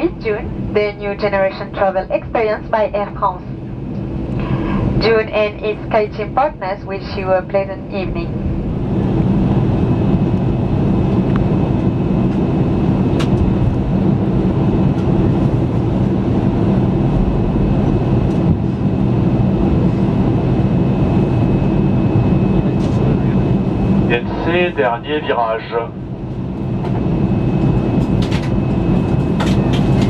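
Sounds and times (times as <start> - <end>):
jet engines idling hum: 0.0 - 30.0.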